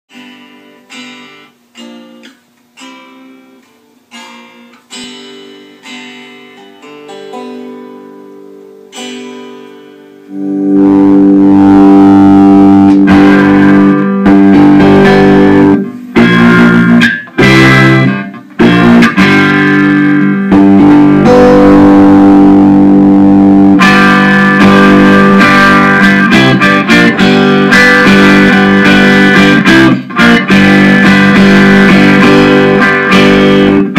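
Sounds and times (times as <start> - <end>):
cigar box guitar playing: 0.1 - 33.9.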